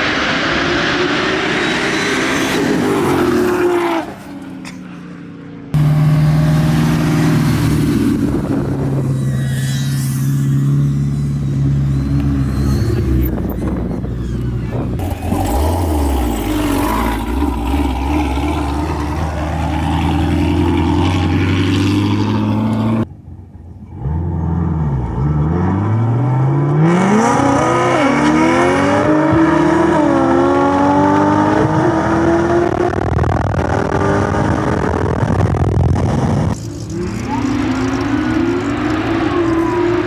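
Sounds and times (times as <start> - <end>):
car engine accelerating: 0.0 - 23.1, 23.9 - 40.0.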